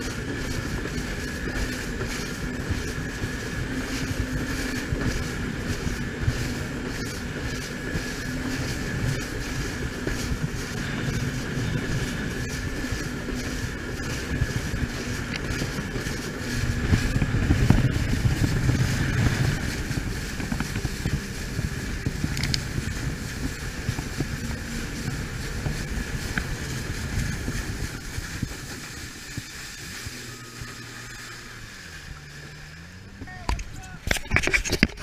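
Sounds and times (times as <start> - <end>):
water rushing along hull: 0.0 - 35.0
watercraft engine drone: 0.0 - 35.0.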